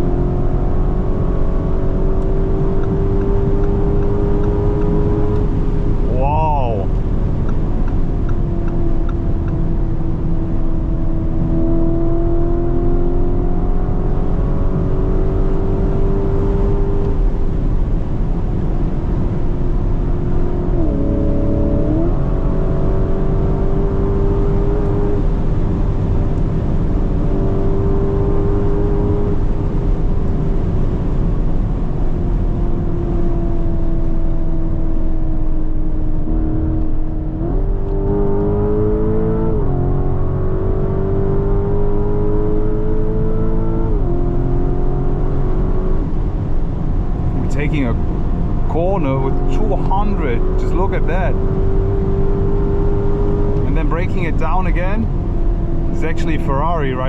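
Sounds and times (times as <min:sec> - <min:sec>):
car engine pulling hard: 0:00.0 - 0:57.0
low road roar: 0:00.0 - 0:57.0.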